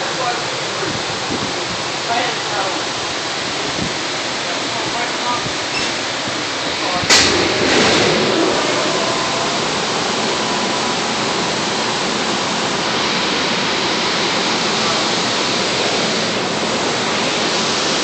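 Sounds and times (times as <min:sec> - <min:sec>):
loud steady rushing noise: 0:00.0 - 0:18.0.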